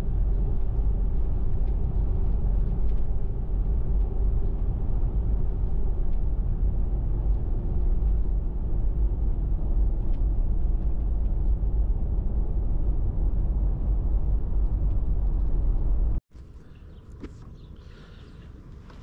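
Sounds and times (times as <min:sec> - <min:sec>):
outdoor background noise: 0:00.0 - 0:19.0
road and engine rumble in car: 0:00.0 - 0:19.0.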